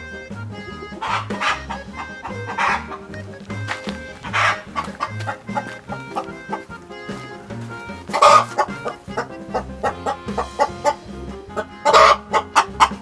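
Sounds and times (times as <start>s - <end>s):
background music: 0.0s - 13.0s
hen cackling loudly: 0.0s - 13.0s
rapid clucks: 0.0s - 13.0s.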